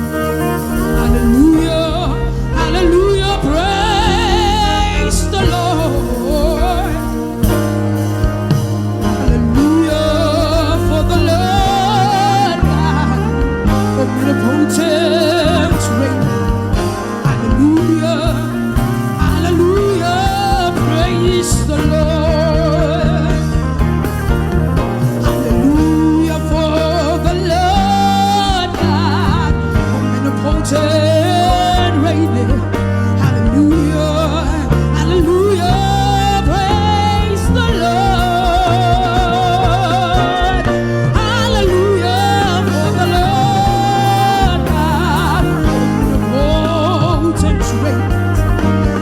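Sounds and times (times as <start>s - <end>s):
bass and chord backing: 0.0s - 49.0s
gospel worship band music: 0.0s - 49.0s
person singing: 0.0s - 49.0s.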